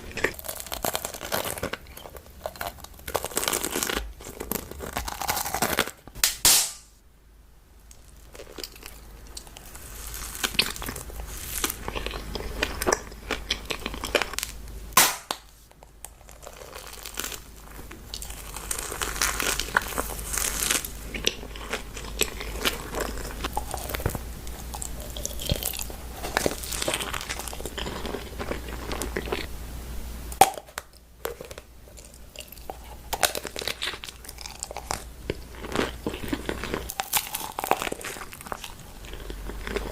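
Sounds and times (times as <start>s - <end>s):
crunchy chewing: 0.0s - 6.2s, 7.9s - 29.5s, 30.4s - 39.9s.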